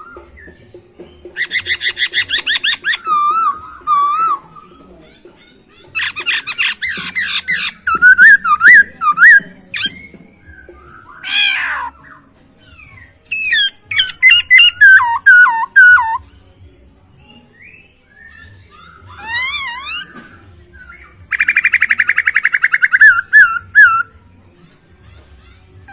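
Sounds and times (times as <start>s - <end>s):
bird singing whistles and trills: 0.0s - 5.2s, 6.0s - 16.4s, 17.2s - 24.2s.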